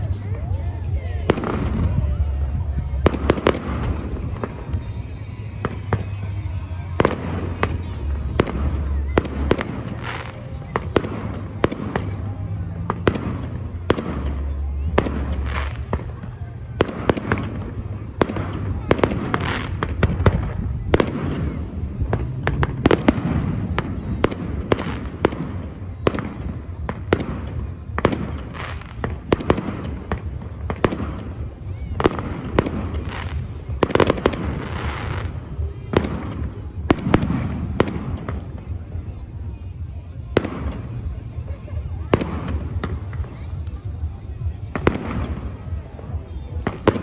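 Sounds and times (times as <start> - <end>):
fireworks bursting with sharp bangs: 0.0 - 47.0
steady low rumble: 0.0 - 47.0.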